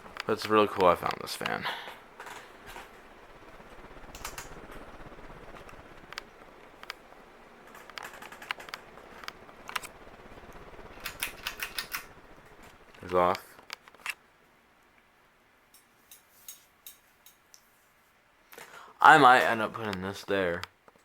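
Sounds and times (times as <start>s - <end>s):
light clicks and ticks: 0.0s - 2.9s, 3.6s - 7.1s, 7.7s - 14.2s, 15.7s - 17.7s, 18.5s - 21.0s
ceiling fan whooshing: 0.0s - 20.6s.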